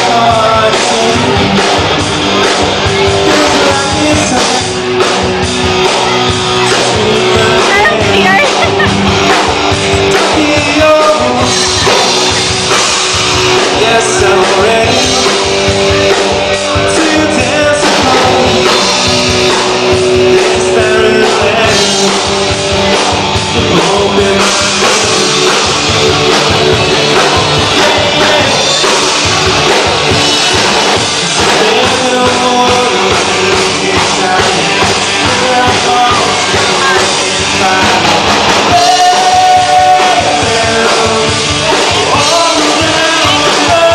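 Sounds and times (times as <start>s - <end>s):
rock band with singer: 0.0s - 43.9s.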